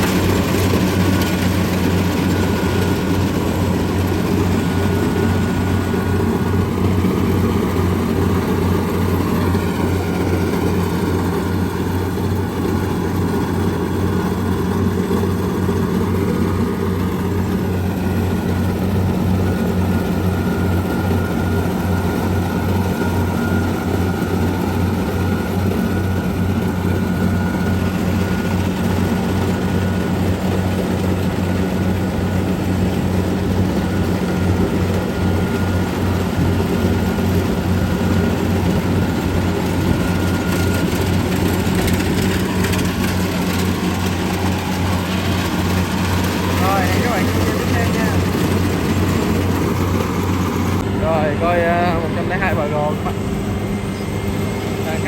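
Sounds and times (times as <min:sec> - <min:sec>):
diesel engine droning: 0:00.0 - 0:55.0
faint high machinery whine: 0:00.0 - 0:55.0.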